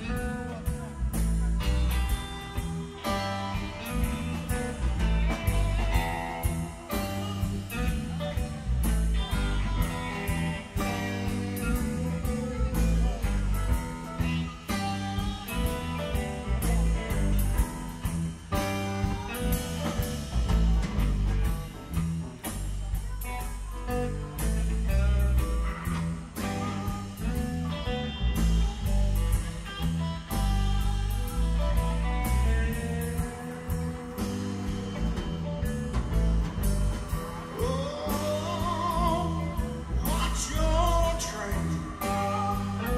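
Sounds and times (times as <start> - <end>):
bass guitar: 0.0 - 42.9
drum kit beat: 0.0 - 42.9
electric guitar lines: 0.0 - 42.9.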